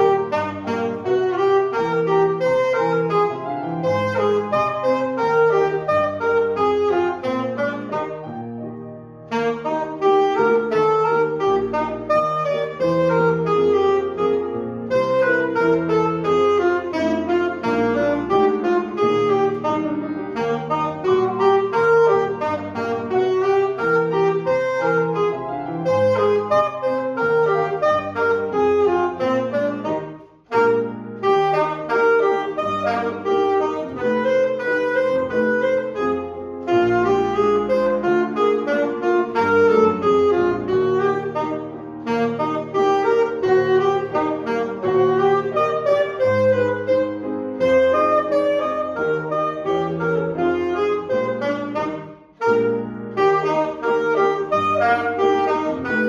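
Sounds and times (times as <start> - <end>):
alto saxophone melody: 0.0 - 56.0
piano accompaniment: 0.0 - 56.0.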